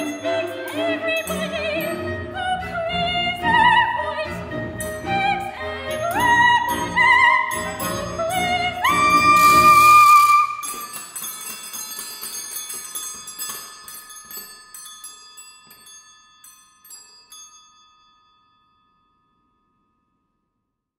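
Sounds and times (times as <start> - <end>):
bell-like metal percussion notes: 0.0 - 2.4, 4.8 - 19.9.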